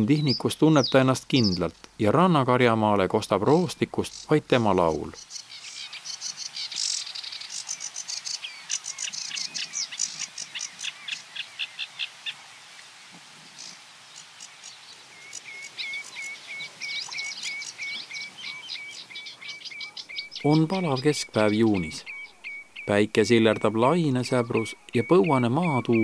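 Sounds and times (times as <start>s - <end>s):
warbler singing: 0.0s - 12.4s, 13.5s - 26.0s.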